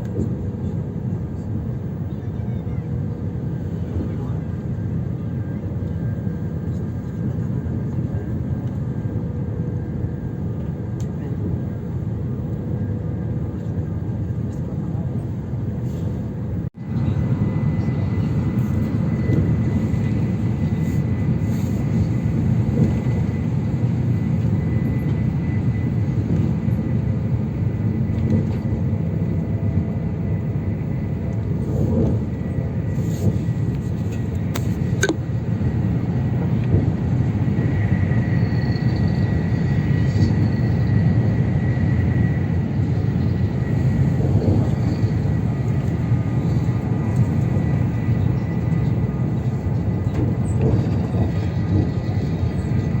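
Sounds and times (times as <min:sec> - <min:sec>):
high-speed train rumbling: 0:00.0 - 0:53.0.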